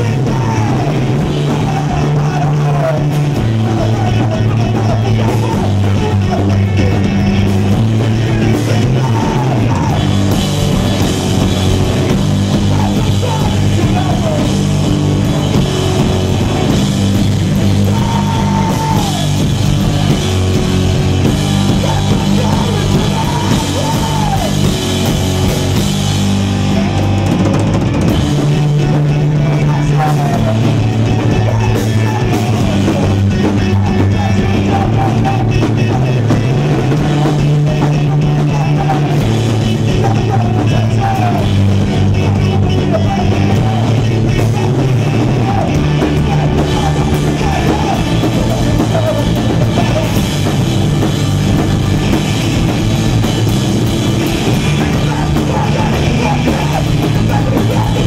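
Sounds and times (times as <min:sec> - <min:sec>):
loud rock band playing: 0:00.0 - 0:58.0.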